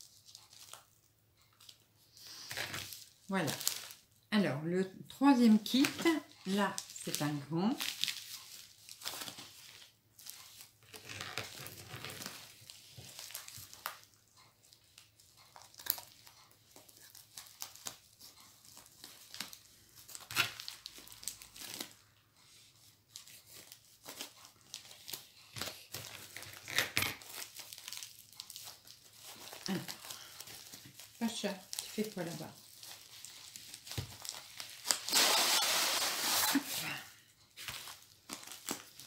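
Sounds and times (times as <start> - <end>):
plastic packaging rustling: 0.0 - 4.1, 5.4 - 22.1, 22.7 - 39.0.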